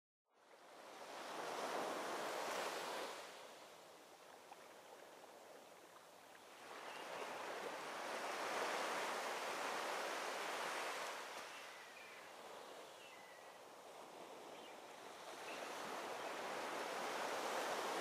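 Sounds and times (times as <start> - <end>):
waves washing onto beach: 0.5 - 18.0.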